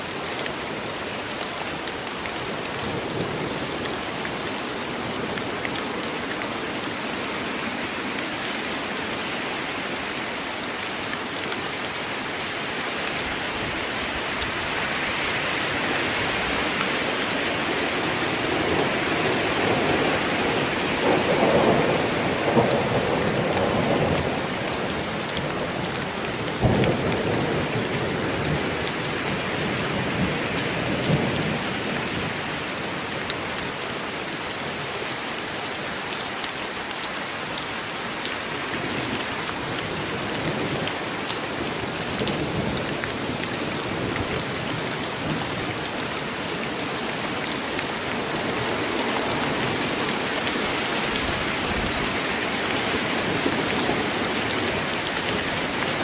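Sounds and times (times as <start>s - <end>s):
heavy rain on forest: 0.0s - 56.0s.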